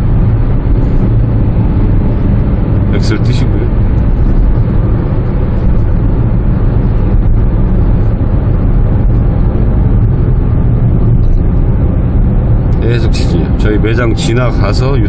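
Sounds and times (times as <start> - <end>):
low engine drone: 0.0 - 15.0
road and tyre rumble: 0.0 - 15.0.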